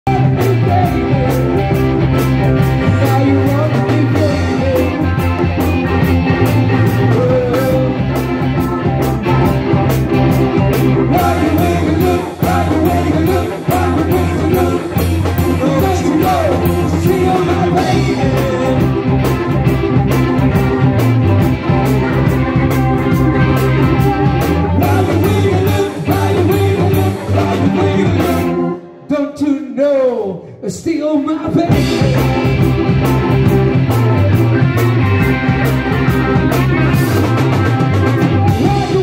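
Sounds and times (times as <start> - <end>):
live blues rock band: 0.1 - 29.1, 31.4 - 39.0.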